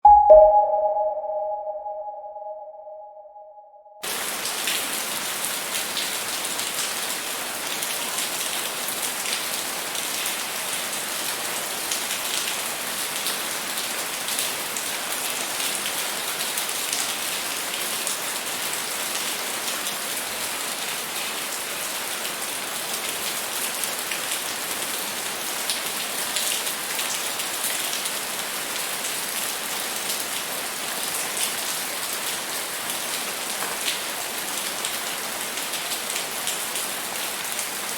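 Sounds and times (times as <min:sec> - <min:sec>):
patter of raindrops: 0:04.1 - 0:37.9
rain hissing on a surface: 0:04.1 - 0:37.9.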